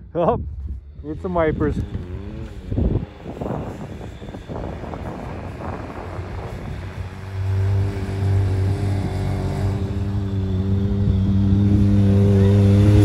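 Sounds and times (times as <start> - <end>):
vehicle sliding through snow: 0.9 - 13.0
engine revving high: 1.4 - 13.0.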